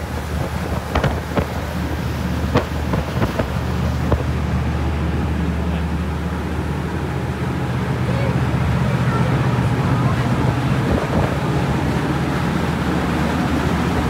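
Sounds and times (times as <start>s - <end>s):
ferry engine drone: 0.0s - 14.0s
rushing water wake: 0.0s - 14.0s
wind buffeting microphone: 0.0s - 14.0s.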